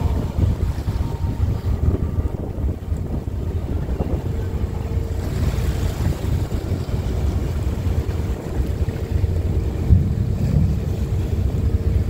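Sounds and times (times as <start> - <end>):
ship engine hum: 0.0 - 12.0
wind buffeting microphone: 0.0 - 12.0.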